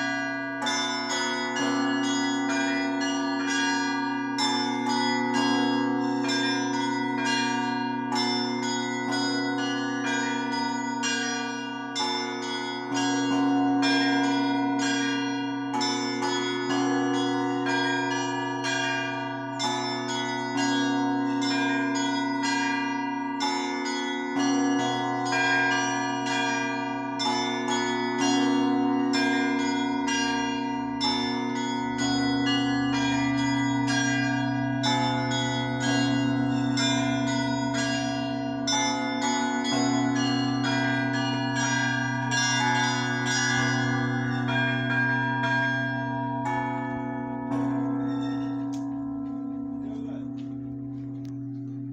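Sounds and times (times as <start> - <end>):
deep bell tolling: 0.0 - 51.9
small church bells pealing: 0.0 - 51.9.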